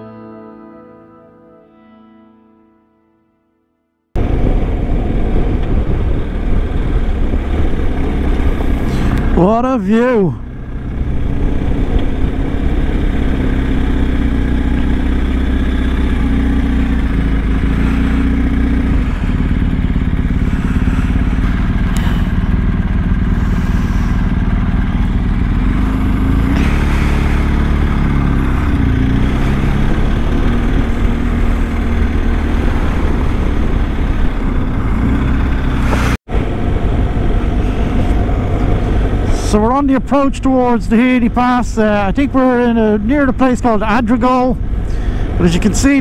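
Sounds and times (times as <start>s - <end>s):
motorcycle engine running: 4.2s - 46.0s.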